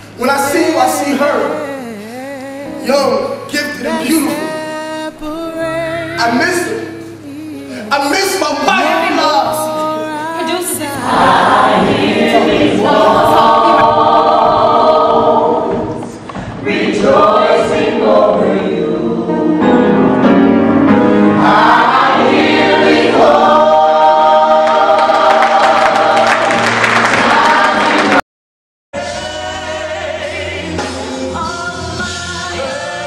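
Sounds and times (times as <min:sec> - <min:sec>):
choir singing held chords: 0:00.3 - 0:28.2.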